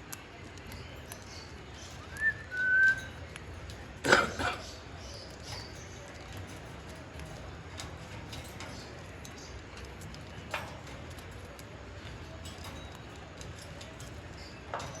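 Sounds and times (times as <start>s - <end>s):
light clicks and taps: 0.0s - 15.0s.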